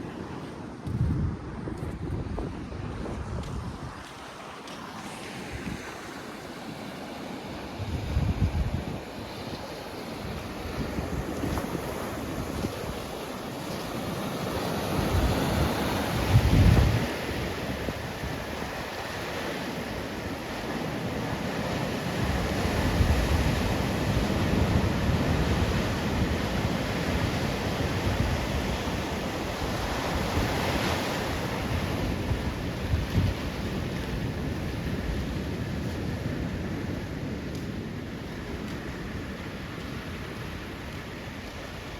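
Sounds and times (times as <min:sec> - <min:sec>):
wind buffeting microphone: 0:00.0 - 0:06.2, 0:07.6 - 0:13.2, 0:14.4 - 0:41.9
ocean surf washing onto beach: 0:00.0 - 0:41.9.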